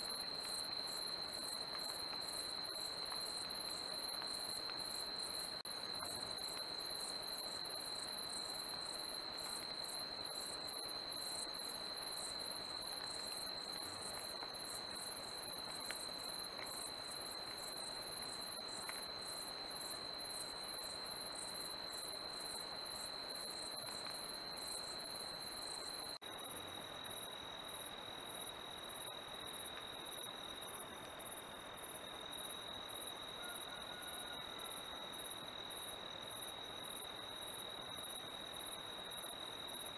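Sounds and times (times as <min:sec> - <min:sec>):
insects pulsing chirp: 0:00.0 - 0:39.9.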